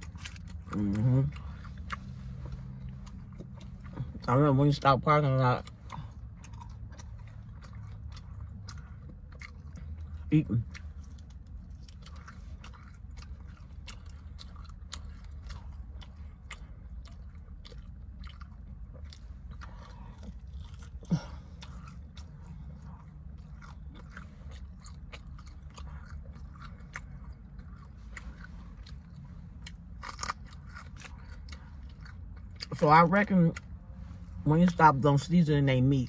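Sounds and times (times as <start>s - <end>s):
chewing and crunching: 0.0s - 36.0s
steady low hum: 0.0s - 36.0s.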